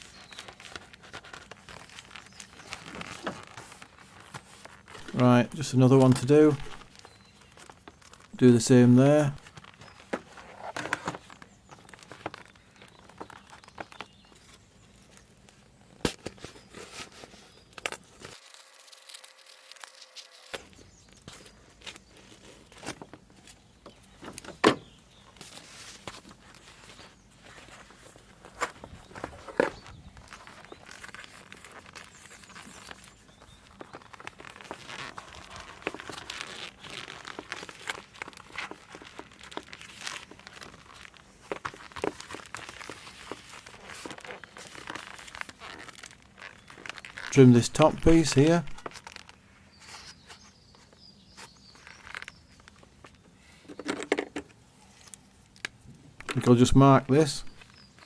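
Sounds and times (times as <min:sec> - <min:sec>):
foam sheet crinkling and rustling: 0:00.0 - 0:53.3.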